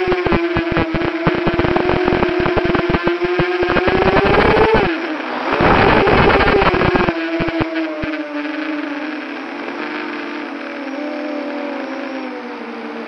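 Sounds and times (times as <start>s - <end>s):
dense crackle: 0.0s - 10.7s
drone motors and propellers whining: 0.0s - 13.0s.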